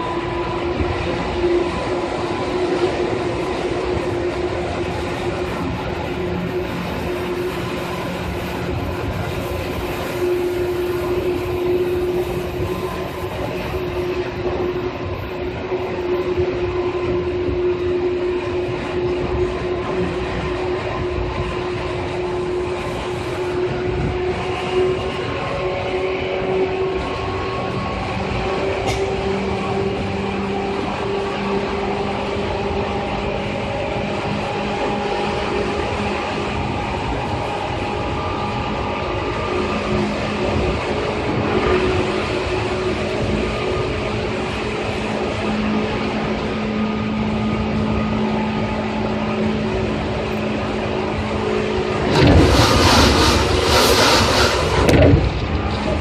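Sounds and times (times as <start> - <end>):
train motor and gear whine: 0.0 - 56.0
train wheels rumbling on rails: 0.0 - 56.0.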